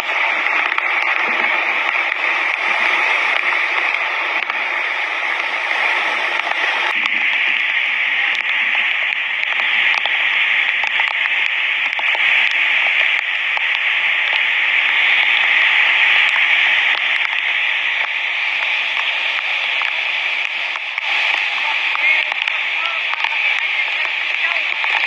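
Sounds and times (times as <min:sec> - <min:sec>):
river rushing over boulders: 0:00.0 - 0:25.0.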